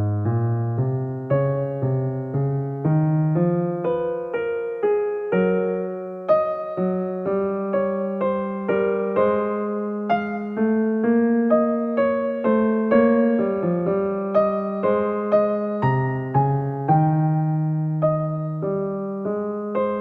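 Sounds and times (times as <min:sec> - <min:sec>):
gentle piano tune: 0:00.0 - 0:20.0.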